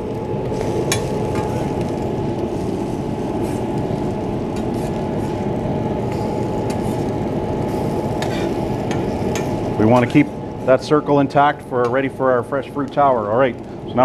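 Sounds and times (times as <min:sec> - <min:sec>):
ventilation fan rushing: 0:00.0 - 0:14.0.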